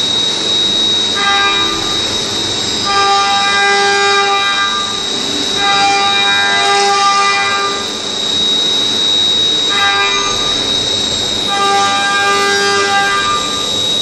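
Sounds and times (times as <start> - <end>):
high-pitched spindle whine: 0.0 - 14.0
horn-like cutting tone: 0.0 - 14.0.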